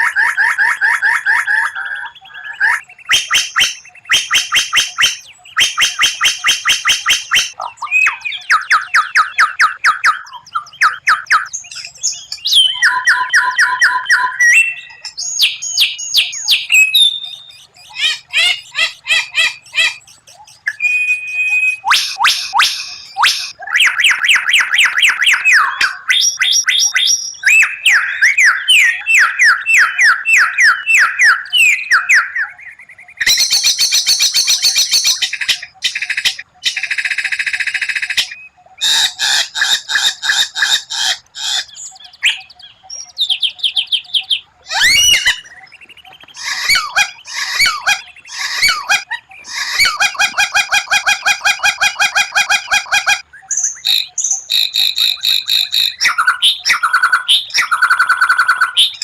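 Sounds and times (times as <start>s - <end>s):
songbird singing varied song: 0.0s - 59.0s.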